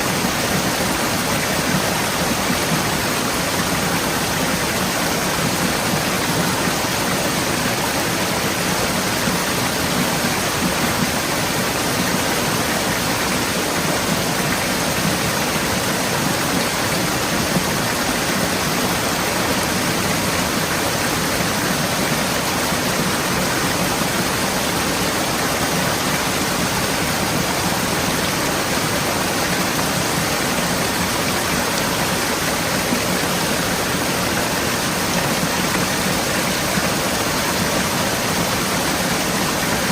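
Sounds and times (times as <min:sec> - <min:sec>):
stream splashing over rocks: 0:00.0 - 0:39.9.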